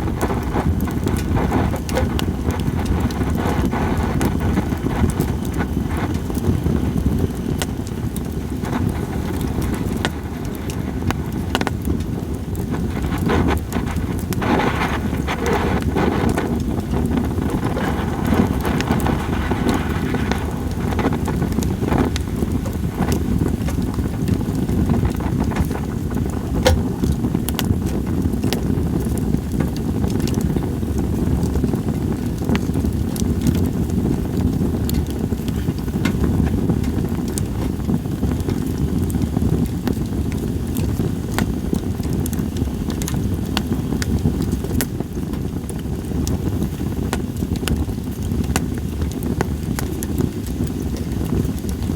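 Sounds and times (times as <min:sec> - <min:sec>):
wind: 0:00.0 - 0:51.9
wood fire crackling and popping: 0:00.0 - 0:51.9.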